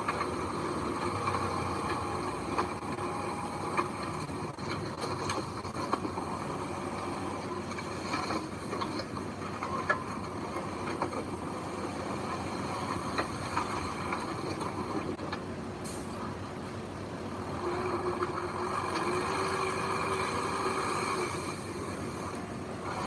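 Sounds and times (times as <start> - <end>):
heavy machinery running: 0.0 - 23.0.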